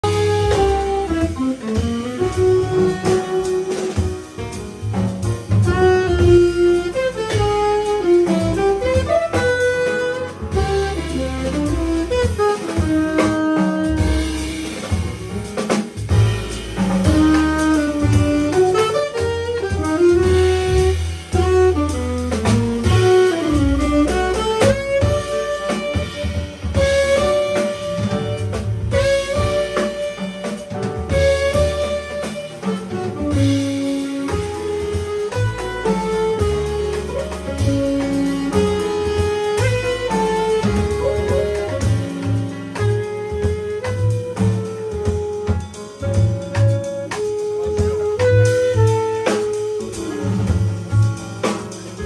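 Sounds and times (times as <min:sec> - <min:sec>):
saxophone: 0:00.0 - 0:16.2, 0:16.8 - 0:52.0
upright bass walking line: 0:00.0 - 0:45.4, 0:49.8 - 0:52.0
drums: 0:00.0 - 0:52.0
jazz band playing: 0:00.0 - 0:52.0
piano: 0:00.0 - 0:52.0.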